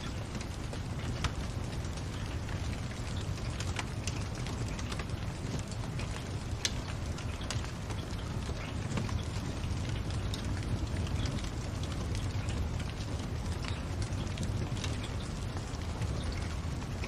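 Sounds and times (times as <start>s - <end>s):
low fire rumble: 0.0s - 17.0s
wood fire crackling and snapping: 0.0s - 17.0s.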